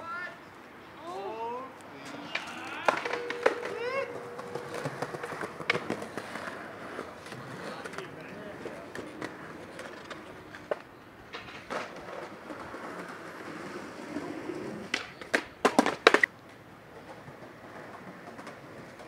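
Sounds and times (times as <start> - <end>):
skateboard clacking on ground: 2.0 - 19.0
skateboard wheels rolling: 2.0 - 19.0.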